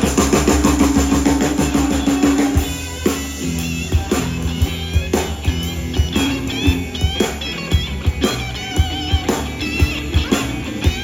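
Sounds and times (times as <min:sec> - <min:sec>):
drum kit: 0:00.0 - 0:11.0
electric guitar bending notes: 0:00.0 - 0:11.0.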